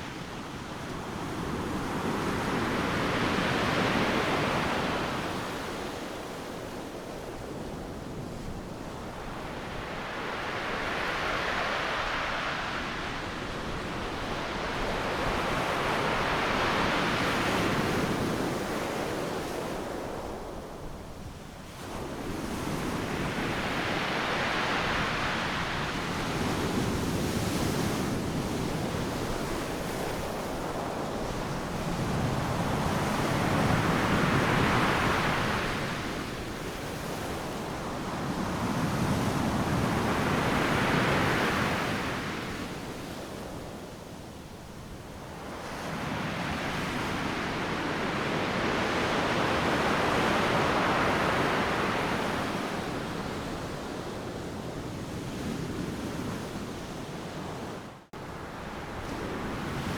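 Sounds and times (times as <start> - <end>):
ocean waves breaking on beach: 0.0 - 21.0, 21.8 - 59.9.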